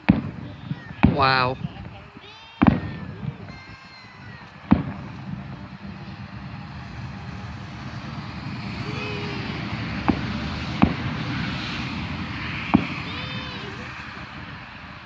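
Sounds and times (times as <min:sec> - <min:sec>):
fireworks bangs: 0:00.0 - 0:15.0
noisy rumble: 0:00.0 - 0:15.0.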